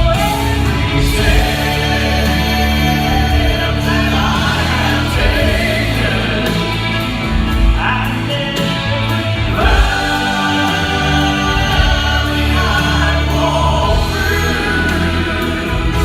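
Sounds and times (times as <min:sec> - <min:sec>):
instrumental accompaniment: 0:00.0 - 0:16.0
vocal quartet singing in harmony: 0:00.0 - 0:16.0.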